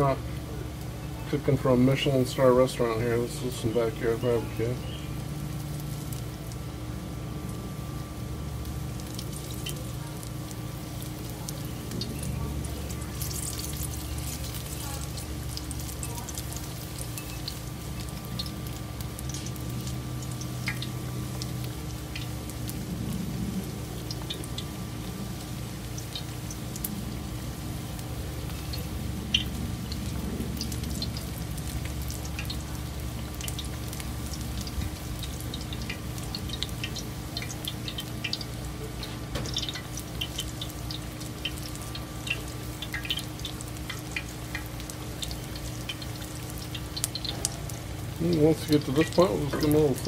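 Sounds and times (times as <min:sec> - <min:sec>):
food frying in hot oil: 0:00.0 - 0:50.0
steady low hum: 0:00.0 - 0:50.0.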